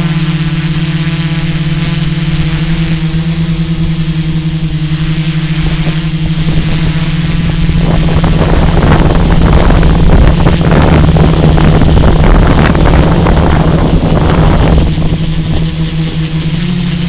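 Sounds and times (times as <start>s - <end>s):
drone propellers humming: 0.0s - 17.0s
wind buffeting microphone: 0.0s - 17.0s.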